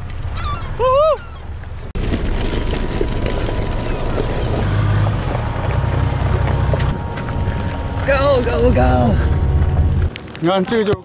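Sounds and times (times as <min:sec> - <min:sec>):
vehicle driving on gravel: 0:01.5 - 0:11.0.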